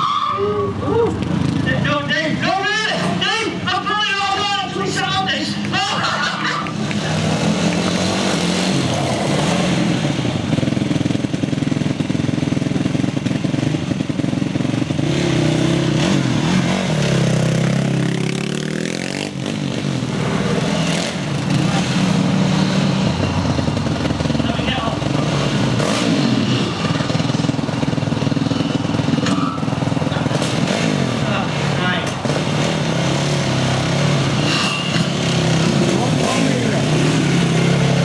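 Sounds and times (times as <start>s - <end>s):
quad bike engine revving: 0.0s - 38.0s.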